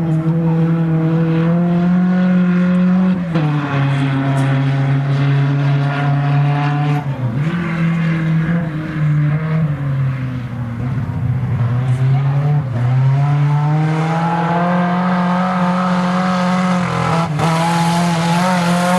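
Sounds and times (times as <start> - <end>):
race car engine running hard: 0.0 - 18.9.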